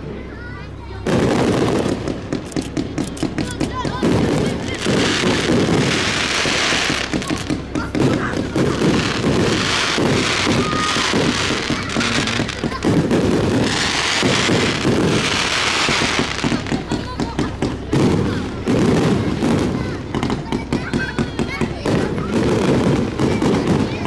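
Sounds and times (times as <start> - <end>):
fireworks crackling: 0.0 - 24.0
fireworks bursts and thumps: 0.9 - 24.0.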